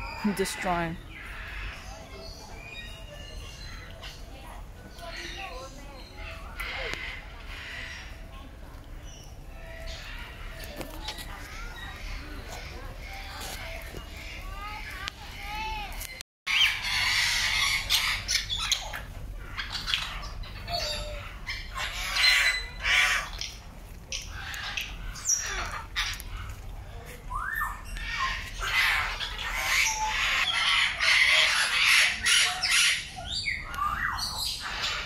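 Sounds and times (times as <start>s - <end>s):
parrots squawking: 0.0s - 2.4s, 5.1s - 8.3s, 9.6s - 14.8s, 16.5s - 26.5s, 27.3s - 35.0s.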